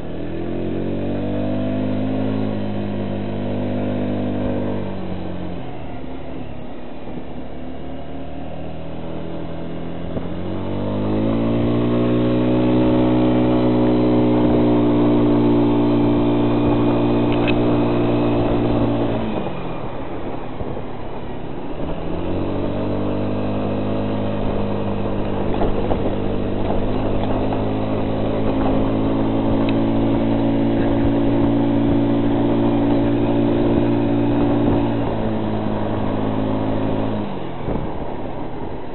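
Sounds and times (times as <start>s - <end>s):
engine running and revving: 0.0s - 38.9s.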